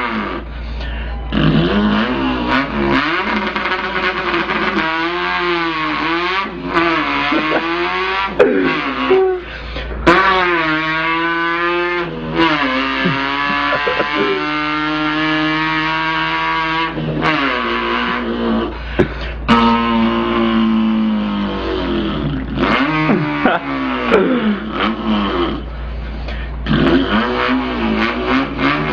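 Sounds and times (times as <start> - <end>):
man imitating car engine: 0.0 - 28.9.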